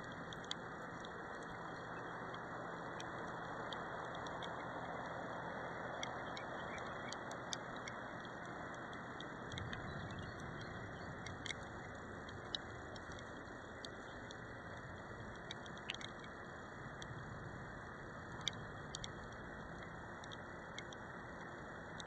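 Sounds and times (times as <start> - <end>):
raindrops ticking on camera: 0.0 - 22.0.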